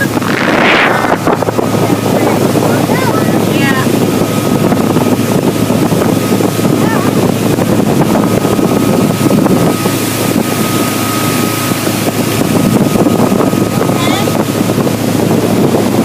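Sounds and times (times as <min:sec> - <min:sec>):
motorboat engine running: 0:00.0 - 0:16.0
thin whine: 0:00.0 - 0:16.0
wind buffeting microphone: 0:00.0 - 0:16.0.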